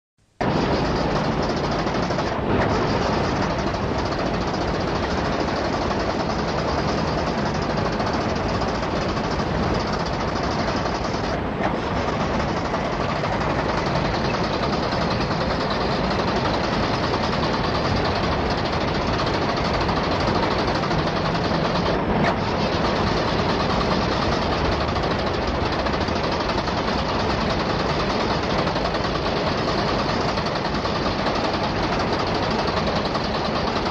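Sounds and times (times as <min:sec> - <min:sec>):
starter motor cranking engine: 0:00.4 - 0:33.9.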